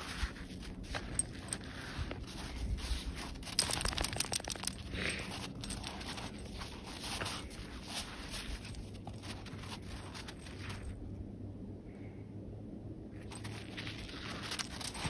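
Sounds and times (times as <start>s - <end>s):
crusty snow crunching and scraping: 0.0s - 11.0s, 13.2s - 15.0s.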